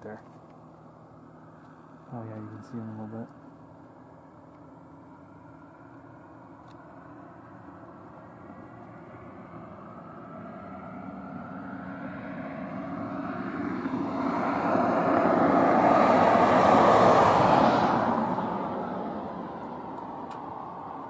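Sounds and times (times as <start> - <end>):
vehicle passing by: 1.1 - 3.3, 5.2 - 21.0.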